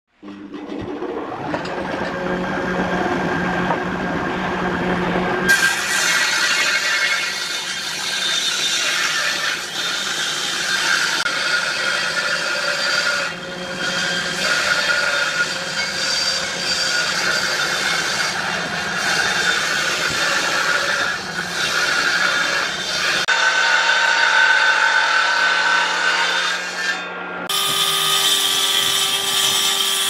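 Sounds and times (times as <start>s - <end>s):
jointer cutting wood: 4.8s - 30.0s
saw blade cutting wood: 5.4s - 30.0s.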